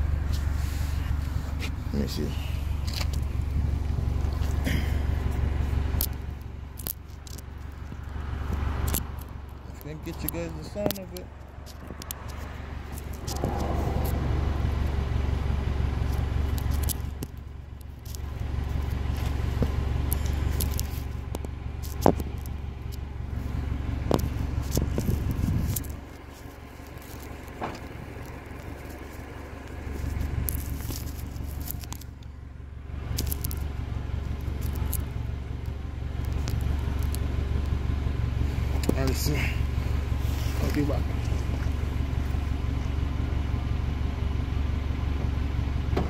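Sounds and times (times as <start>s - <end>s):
car exhaust idling drone: 0.0s - 46.0s.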